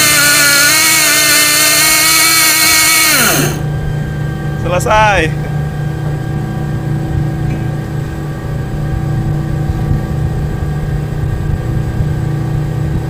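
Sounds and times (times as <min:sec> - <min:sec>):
ship machinery humming: 0:00.0 - 0:13.0.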